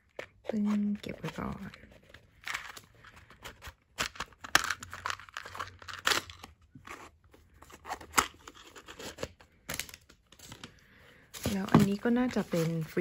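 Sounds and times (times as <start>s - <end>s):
paper and cardboard crinkling: 0.0s - 13.0s.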